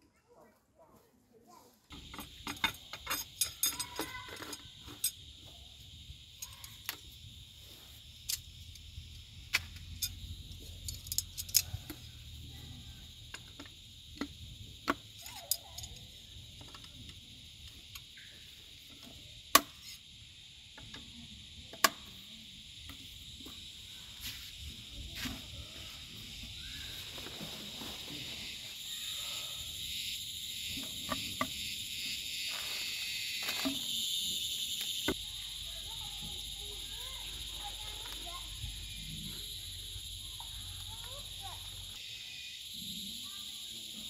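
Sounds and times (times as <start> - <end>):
high insect drone: 1.9 - 44.0.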